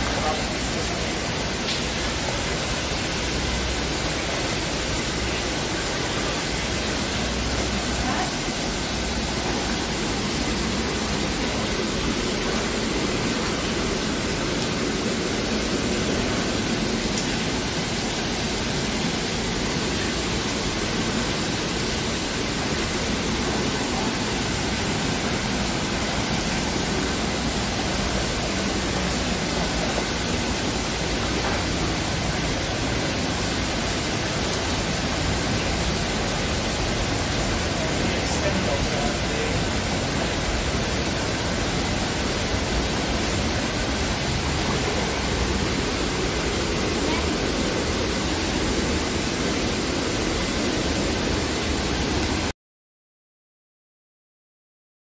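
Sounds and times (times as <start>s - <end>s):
river flowing over rocks: 0.0s - 52.5s
waterfall rushing: 0.0s - 52.5s.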